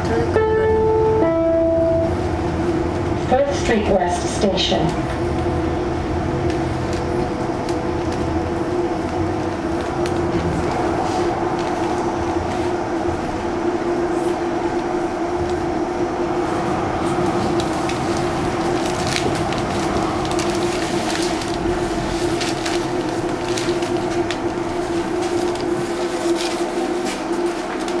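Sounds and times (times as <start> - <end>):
light rail car electric hum: 0.0 - 28.0.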